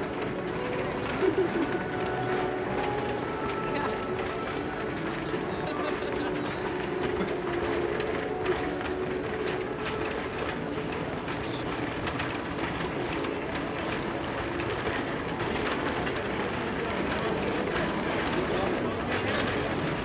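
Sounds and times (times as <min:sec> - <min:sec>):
faint crowd voices: 0:00.0 - 0:20.0
fireworks crackling and banging: 0:00.0 - 0:20.0.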